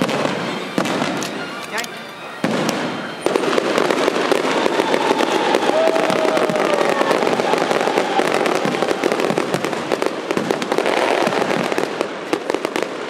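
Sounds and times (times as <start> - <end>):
fireworks crackling: 0.0 - 13.0
whistling firework shell: 0.0 - 13.0.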